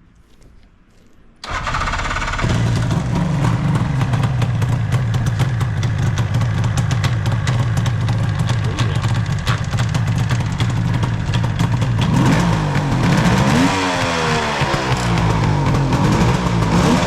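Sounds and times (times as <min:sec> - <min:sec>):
motorcycle engine starting: 0:01.4 - 0:17.0.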